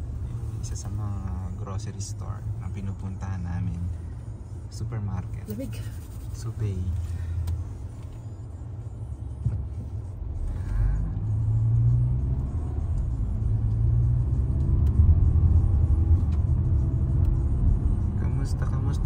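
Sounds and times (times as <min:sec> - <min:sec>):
car engine accelerating: 0:00.0 - 0:19.0
road rumble: 0:00.0 - 0:19.0.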